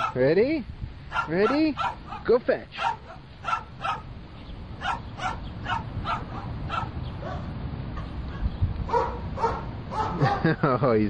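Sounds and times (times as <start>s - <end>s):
dog barking: 0.0s - 0.2s, 1.1s - 4.1s, 4.8s - 10.5s.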